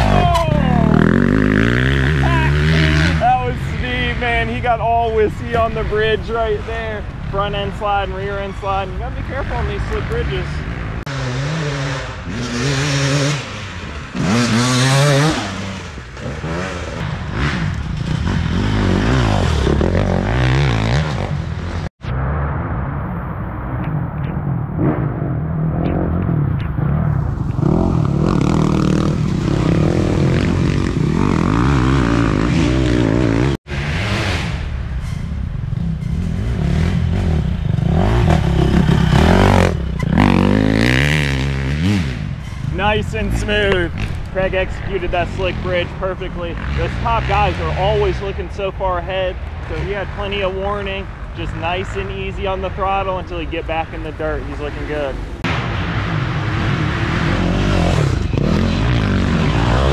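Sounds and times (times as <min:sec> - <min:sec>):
dirt bike engines revving: 0:00.0 - 0:21.9, 0:23.8 - 0:59.9.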